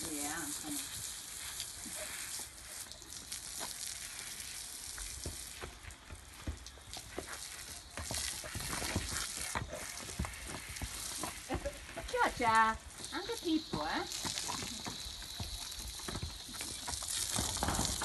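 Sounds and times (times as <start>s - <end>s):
hose spray hissing: 0.0s - 18.0s
water spattering: 0.0s - 18.0s.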